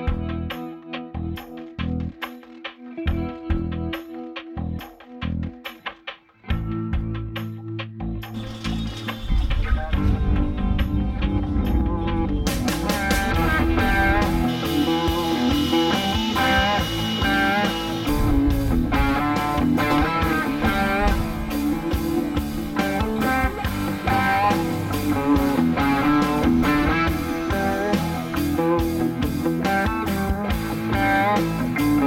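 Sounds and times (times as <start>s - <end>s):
instrumental rock music: 0.0s - 32.0s.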